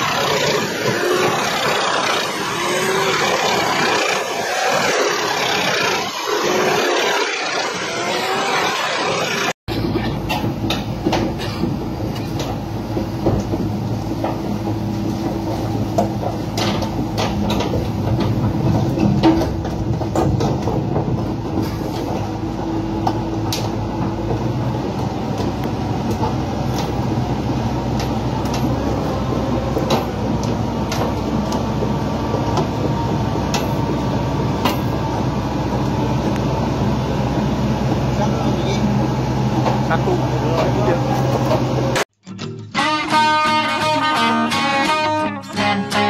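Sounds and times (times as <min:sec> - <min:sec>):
steel tracks clanking: 0:00.0 - 0:42.0
diesel engine rumble: 0:00.0 - 0:42.2.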